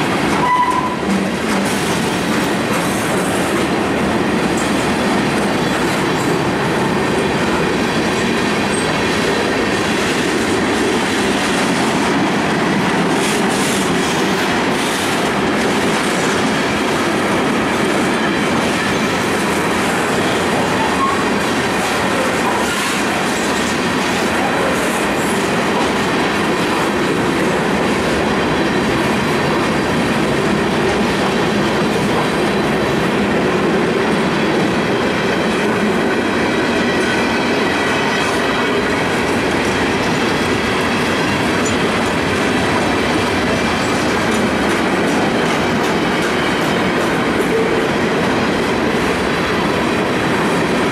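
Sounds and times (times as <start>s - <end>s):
freight train rolling past: 0.0s - 50.9s.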